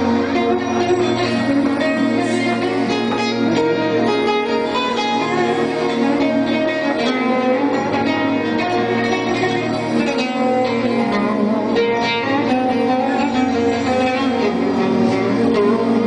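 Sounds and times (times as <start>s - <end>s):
keyboard accompaniment: 0.0s - 16.0s
oud plucking melody: 0.0s - 16.0s.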